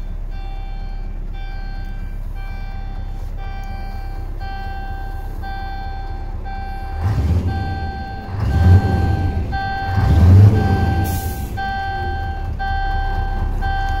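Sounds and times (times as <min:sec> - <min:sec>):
dashboard warning buzzer beeping: 0:00.0 - 0:14.0
diesel truck engine revving: 0:00.0 - 0:14.0.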